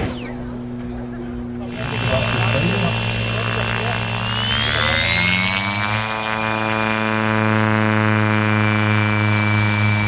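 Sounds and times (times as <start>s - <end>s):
model motor and propeller whine: 0.0s - 10.0s.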